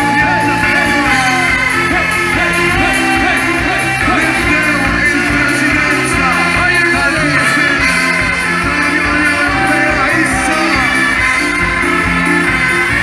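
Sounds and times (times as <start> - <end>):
song with band: 0.0 - 13.0.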